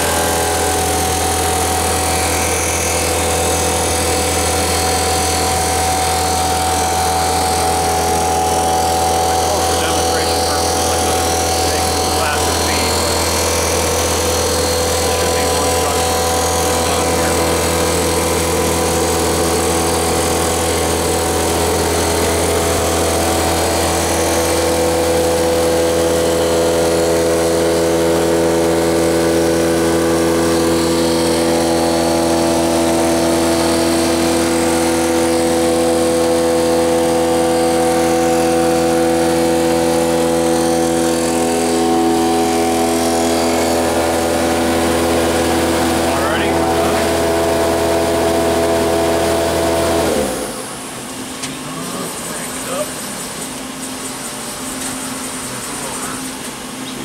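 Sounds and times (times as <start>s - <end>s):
milling machine spindle whine: 0.0s - 57.0s.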